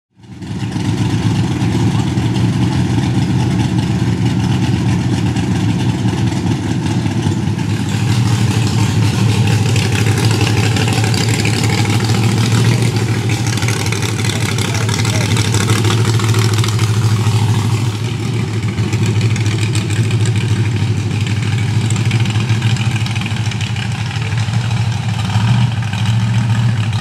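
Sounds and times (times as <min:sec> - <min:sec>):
truck engine idling: 0:00.2 - 0:27.0.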